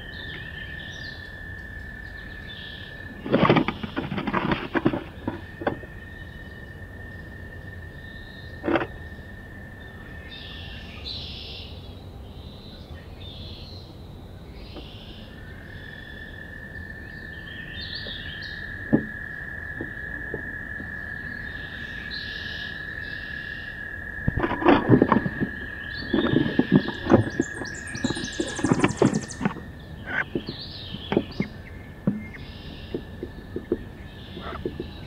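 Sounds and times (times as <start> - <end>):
muffled birdsong: 0.0 - 35.0.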